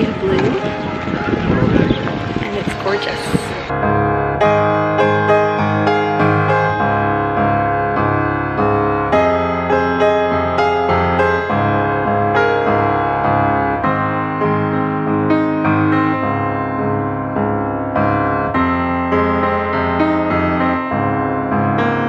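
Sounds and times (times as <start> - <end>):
background piano music: 0.0 - 22.0.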